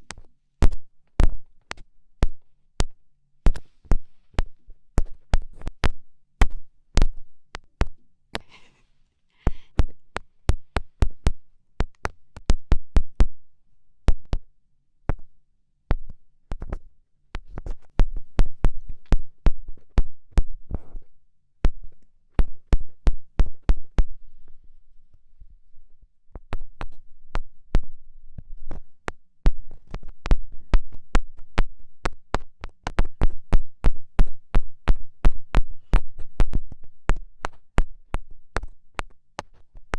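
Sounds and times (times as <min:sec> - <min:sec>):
fingertips tapping on microphone: 0:00.0 - 0:08.8, 0:09.4 - 0:13.4, 0:14.1 - 0:15.3, 0:15.9 - 0:24.6, 0:26.3 - 0:39.9.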